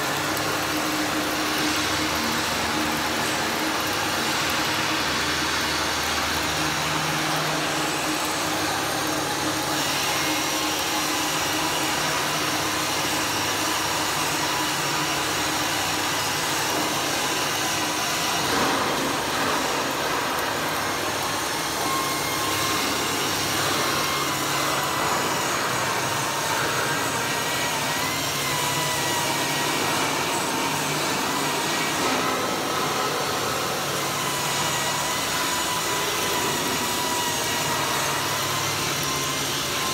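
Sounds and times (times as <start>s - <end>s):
angle grinder whine: 0.0s - 39.9s
welding arc hiss and crackle: 0.0s - 39.9s.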